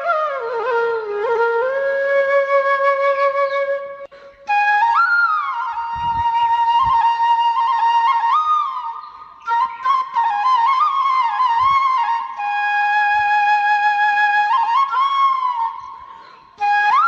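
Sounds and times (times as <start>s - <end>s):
flute playing long notes: 0.0s - 17.0s.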